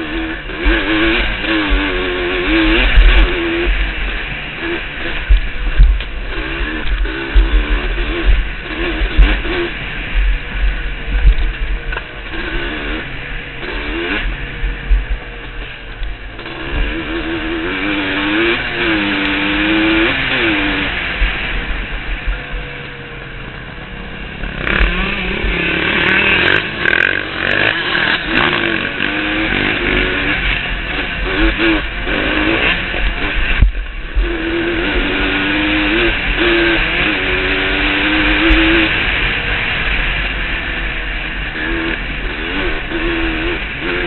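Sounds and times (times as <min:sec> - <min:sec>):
dirt bike engine revving: 0:00.0 - 0:44.0
wind rumble: 0:00.0 - 0:44.0.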